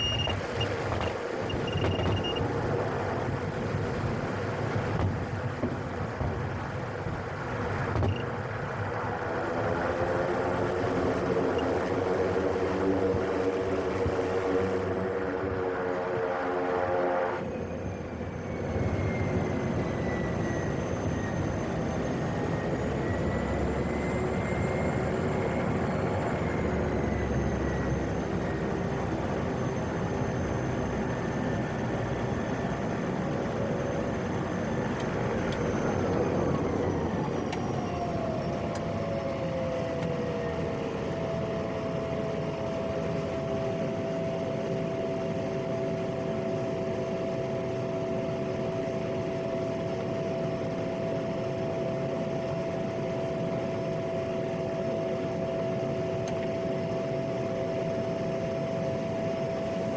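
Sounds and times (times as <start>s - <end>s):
turboprop engine and propeller: 0.0s - 59.9s.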